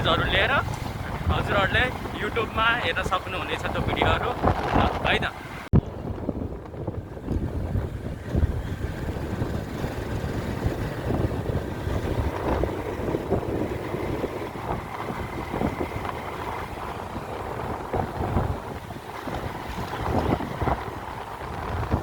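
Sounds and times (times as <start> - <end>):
motorcycle engine: 0.0 - 22.0
road noise: 0.0 - 22.0
wind buffeting microphone: 0.0 - 22.0.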